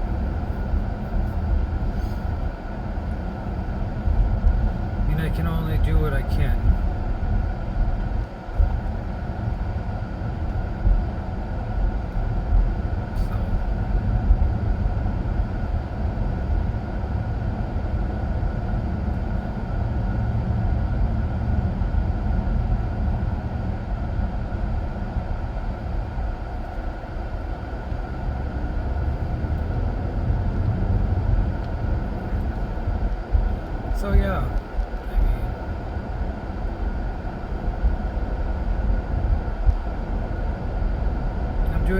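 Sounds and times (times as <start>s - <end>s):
car road and engine rumble: 0.0s - 41.9s
faint steady whine: 0.0s - 41.9s.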